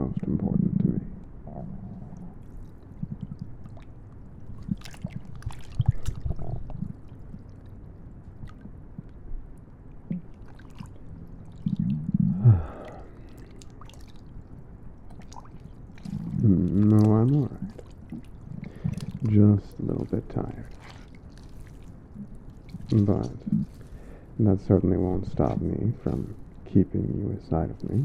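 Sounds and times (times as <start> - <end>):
stomach gurgling: 0.0 - 28.0.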